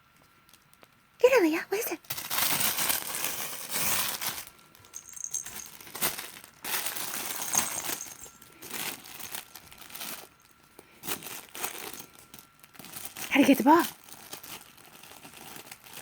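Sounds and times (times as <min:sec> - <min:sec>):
crinkling and rustling: 0:02.0 - 0:16.0.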